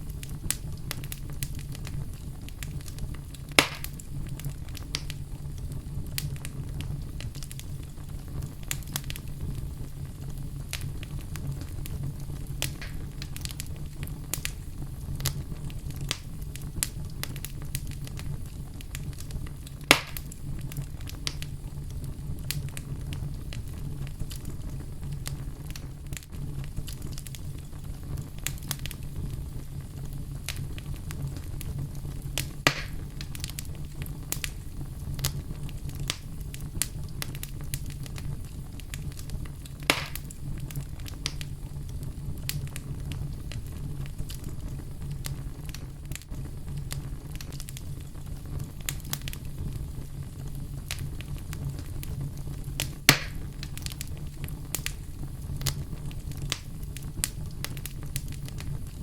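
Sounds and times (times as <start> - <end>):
loud pop from fire: 0.0 - 14.6, 15.2 - 21.6, 30.4 - 49.8, 50.5 - 59.0
fire crackling in fireplace: 0.0 - 59.0.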